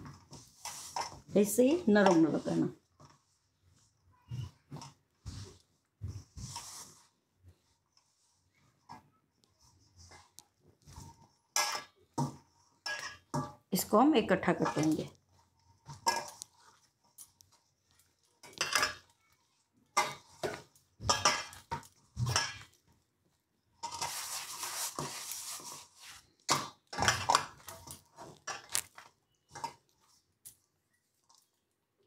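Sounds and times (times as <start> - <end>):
dough knocking and scraping in steel bowl: 0.0 - 23.0, 23.7 - 30.2.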